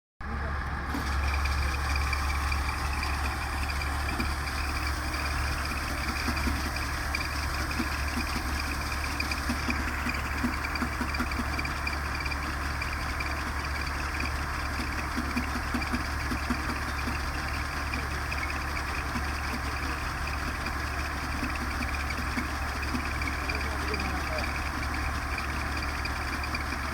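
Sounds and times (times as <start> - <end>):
harvesting machinery engine running: 0.2 - 26.9.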